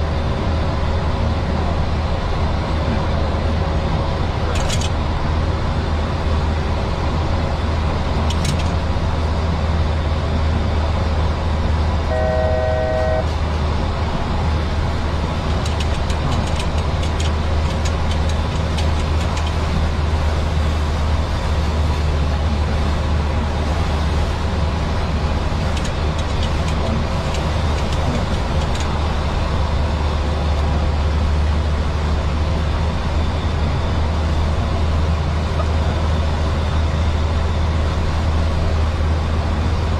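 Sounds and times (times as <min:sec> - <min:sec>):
engine and airflow drone: 0:00.0 - 0:39.9.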